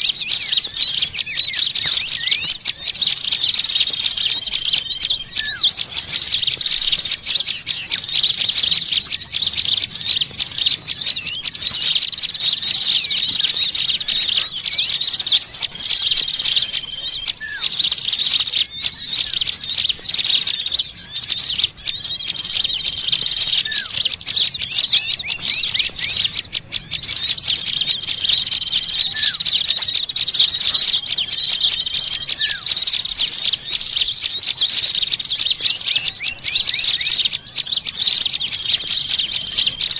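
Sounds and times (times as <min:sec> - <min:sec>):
small songbirds twittering: 0:00.0 - 0:39.9.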